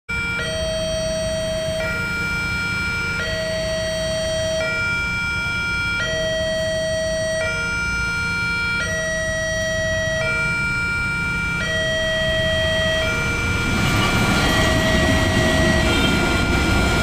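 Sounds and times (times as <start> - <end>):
idling road traffic rumble: 0.1 - 17.0
two-tone level-crossing alarm: 0.1 - 17.0.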